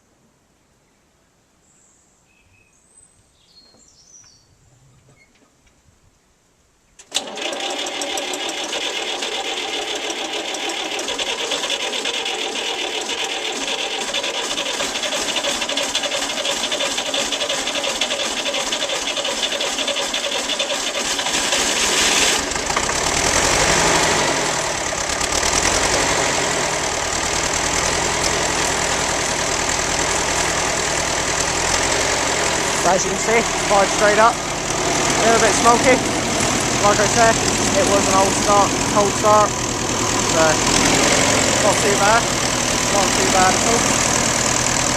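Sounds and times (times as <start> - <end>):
starter motor cranking: 7.0 - 44.9
diesel engine running: 7.2 - 44.9.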